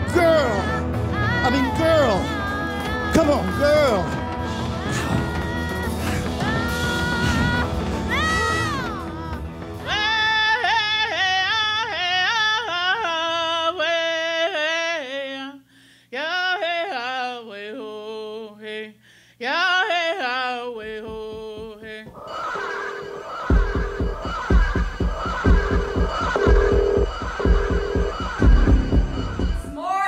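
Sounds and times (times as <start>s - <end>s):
woman singing yodel-like: 4.2s - 30.0s.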